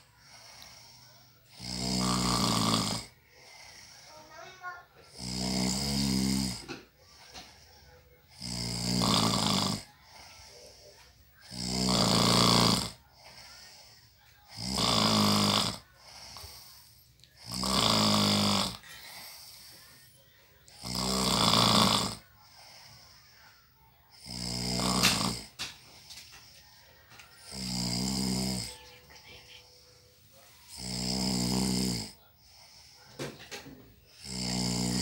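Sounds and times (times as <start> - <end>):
loud rasping snores: 0.0 - 7.5, 8.3 - 10.2, 11.4 - 13.9, 14.5 - 19.8, 20.7 - 23.3, 24.1 - 26.8, 27.4 - 28.7, 30.6 - 35.0
quiet breaths: 0.0 - 35.0.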